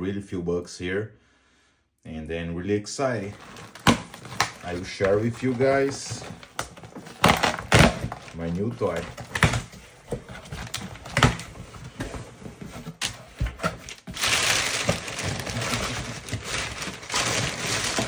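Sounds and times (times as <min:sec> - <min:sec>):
cardboard rustling and scraping: 0:03.2 - 0:18.0.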